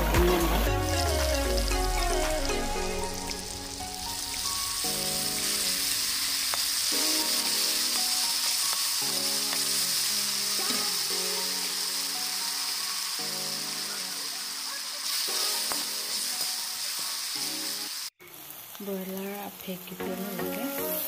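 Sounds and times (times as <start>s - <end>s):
background music with held notes: 0.0s - 16.8s, 20.0s - 21.0s
onions sizzling in hot oil: 2.6s - 21.0s.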